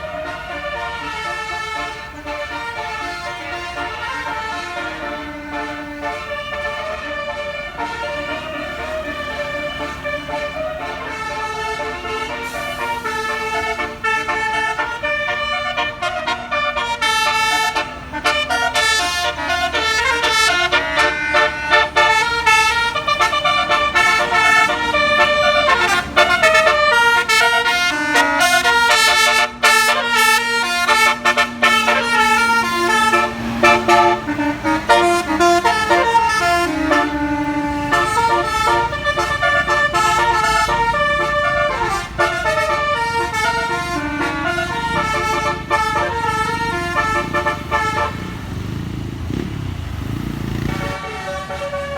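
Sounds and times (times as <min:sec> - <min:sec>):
musical air horns playing melody: 0:00.0 - 0:48.6, 0:50.5 - 0:51.9.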